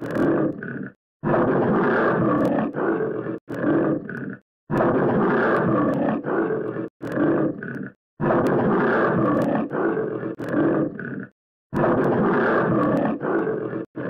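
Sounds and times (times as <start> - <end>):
tiger roaring: 0.0 - 14.0.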